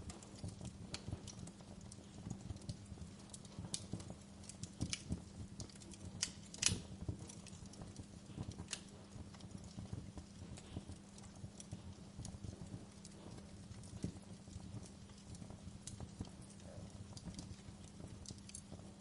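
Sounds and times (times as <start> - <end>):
faint low hum: 0.0 - 19.0
wood fire crackling: 0.0 - 19.0.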